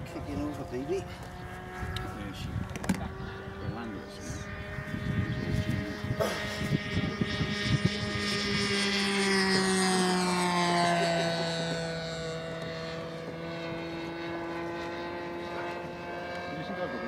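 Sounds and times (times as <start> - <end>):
model plane engine at high revs: 0.0 - 17.0.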